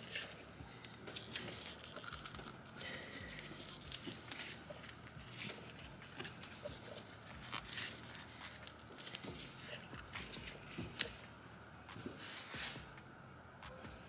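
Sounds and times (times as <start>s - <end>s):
gloved hands rustling: 0.0s - 13.0s.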